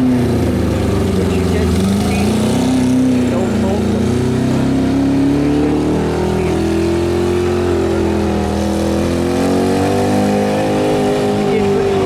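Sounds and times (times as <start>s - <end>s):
lawn tractor engine running hard: 0.0s - 12.0s.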